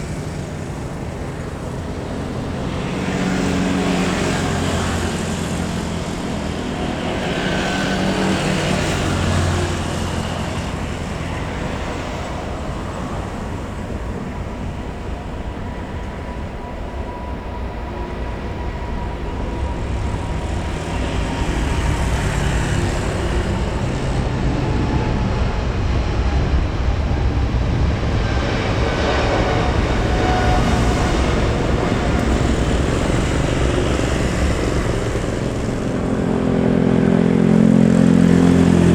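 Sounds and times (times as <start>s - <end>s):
airliner engine rumbling: 0.0s - 38.9s.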